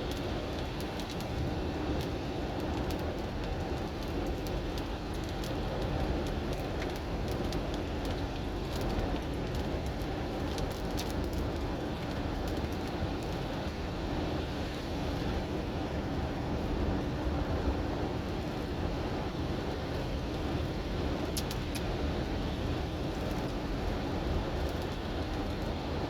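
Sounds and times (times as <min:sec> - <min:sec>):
raindrops striking car: 0:00.0 - 0:15.6, 0:18.2 - 0:26.0
car engine and tyres on wet road: 0:00.0 - 0:26.0.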